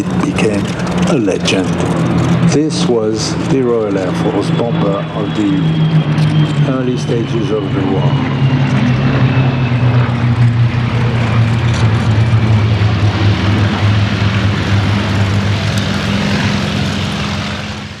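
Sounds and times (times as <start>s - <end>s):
piston aircraft engines droning: 0.0s - 18.0s.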